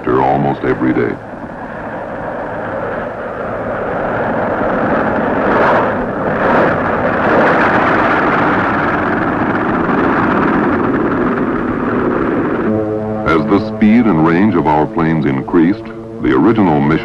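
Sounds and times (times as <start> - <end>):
piston aircraft engines droning: 0.0 - 17.0.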